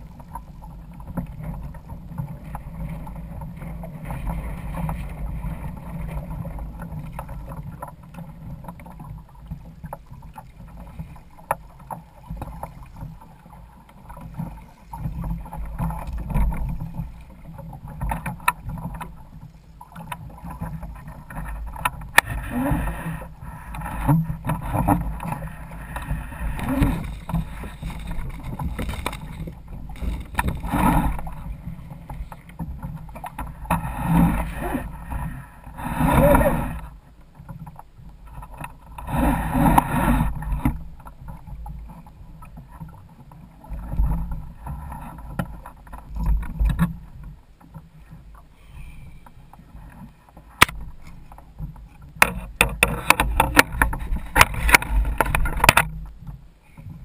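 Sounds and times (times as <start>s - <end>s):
water slapping against a kayak hull: 0.0s - 57.0s.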